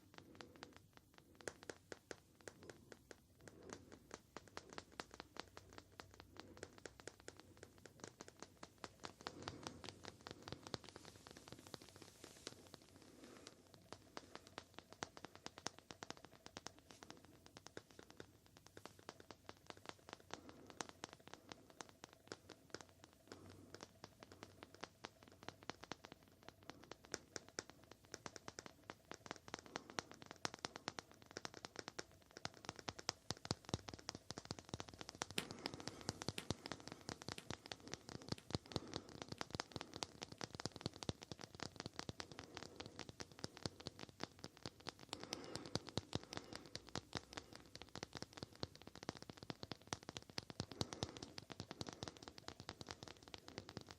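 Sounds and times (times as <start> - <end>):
light tapping and scratching: 0.0 - 53.9.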